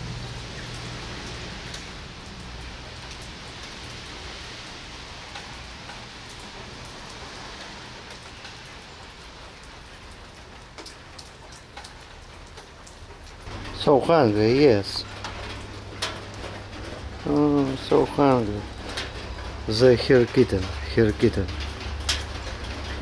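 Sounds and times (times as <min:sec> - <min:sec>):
rain on pavement and foliage: 0:00.0 - 0:23.0.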